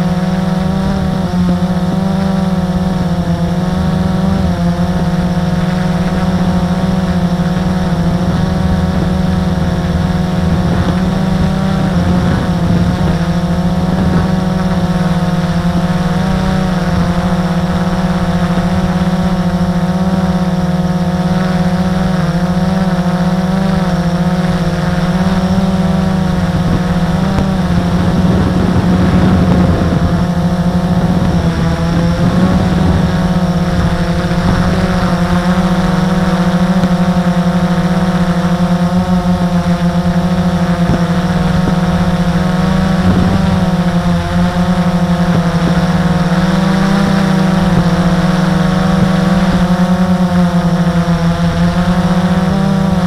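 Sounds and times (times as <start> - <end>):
drone propellers humming: 0.0 - 53.0.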